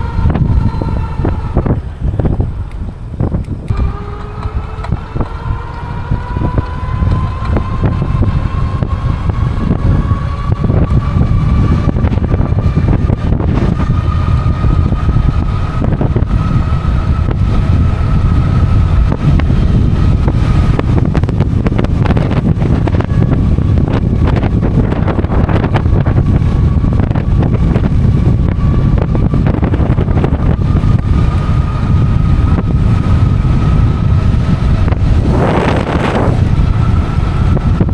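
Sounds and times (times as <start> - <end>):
electric motor whine: 0.0 - 37.9
wind buffeting microphone: 0.0 - 37.9.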